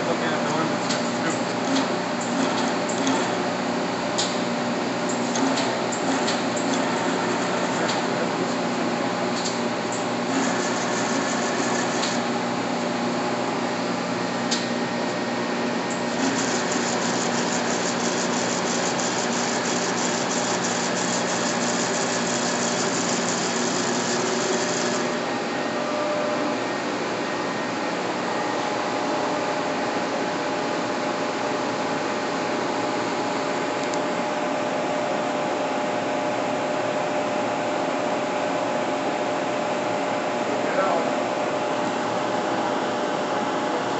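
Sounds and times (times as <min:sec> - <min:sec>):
lathe humming and whining: 0:00.0 - 0:43.9.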